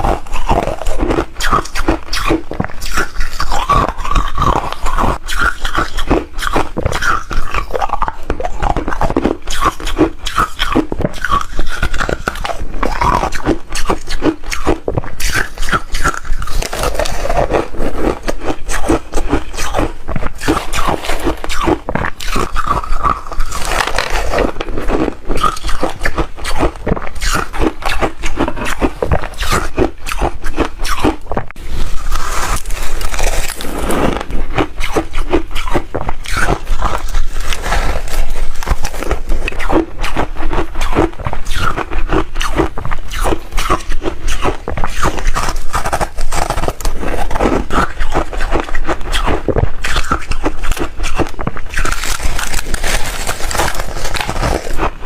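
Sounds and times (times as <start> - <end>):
ice being crunched and chewed: 0.0 - 55.0.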